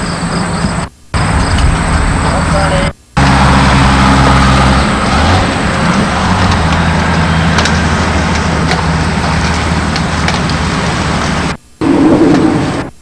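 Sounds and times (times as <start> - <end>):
low engine hum: 0.0 - 13.0
wide rushing noise: 1.2 - 13.0.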